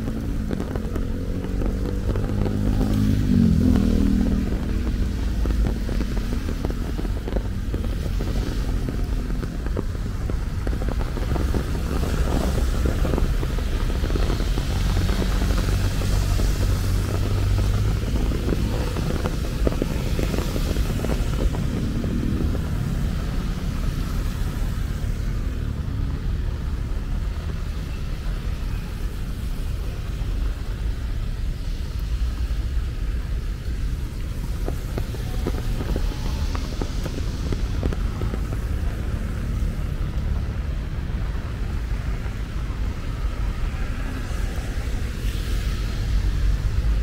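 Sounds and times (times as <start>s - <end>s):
low rumble: 0.0s - 47.0s
rain hiss: 0.0s - 47.0s.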